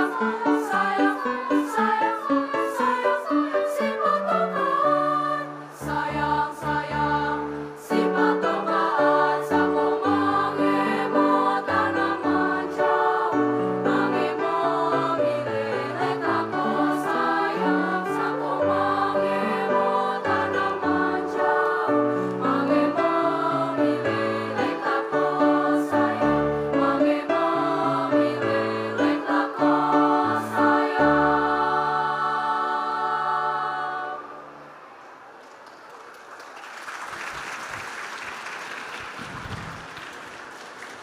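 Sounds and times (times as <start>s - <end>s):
choir singing in harmony: 0.0s - 35.3s.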